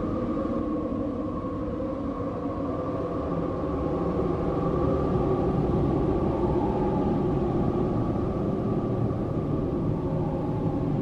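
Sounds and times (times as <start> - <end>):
rushing wind: 0.0 - 11.0.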